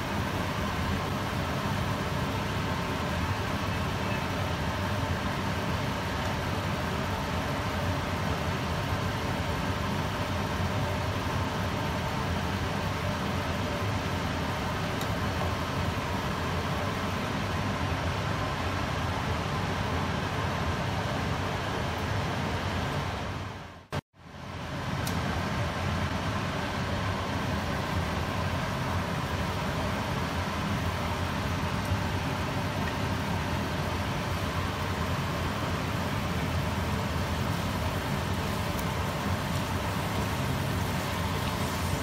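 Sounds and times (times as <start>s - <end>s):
ribs bubbling and sizzling in a wok: 0.0s - 42.0s.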